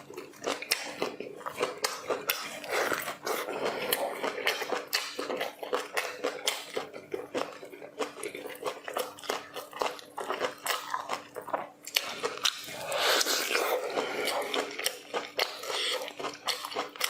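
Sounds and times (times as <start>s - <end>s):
chewing and crunching food: 0.0s - 17.0s.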